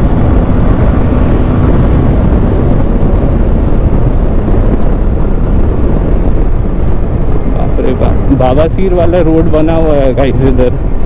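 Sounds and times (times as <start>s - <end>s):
motorcycle engine drone: 0.0s - 11.0s
road noise: 0.0s - 11.0s
wind rush: 0.0s - 11.0s.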